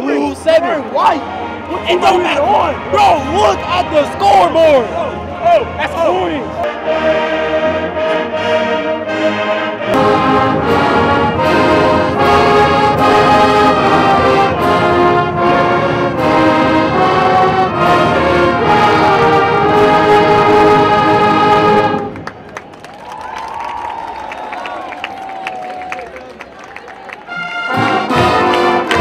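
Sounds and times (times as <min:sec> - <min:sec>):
brass band music: 0:00.0 - 0:22.4, 0:27.1 - 0:29.0.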